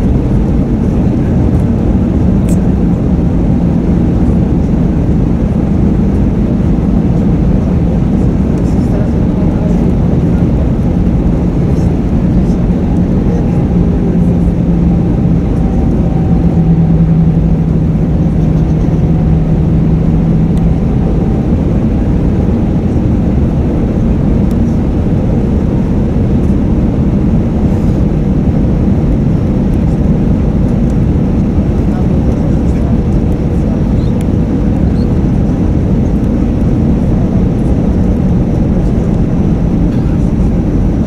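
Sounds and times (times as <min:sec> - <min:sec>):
airplane cabin engine rumble: 0:00.0 - 0:41.0
low hum: 0:00.0 - 0:41.0.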